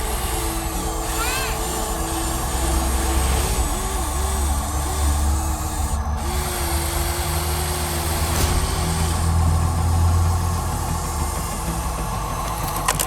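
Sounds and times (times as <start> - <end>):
small electric motors whining: 0.0 - 13.0
steady low hum: 0.0 - 13.0.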